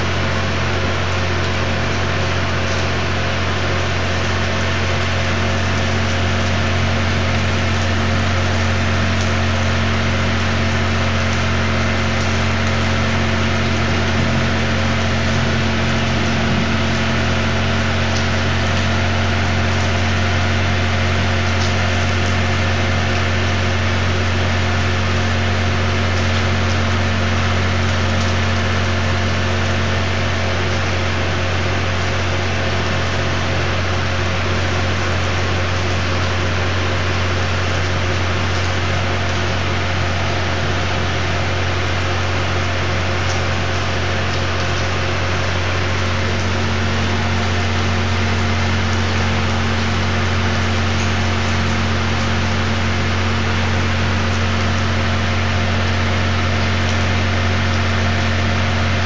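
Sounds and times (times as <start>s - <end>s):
constant low hum: 0.0s - 59.0s
steady rain falling: 0.0s - 59.0s.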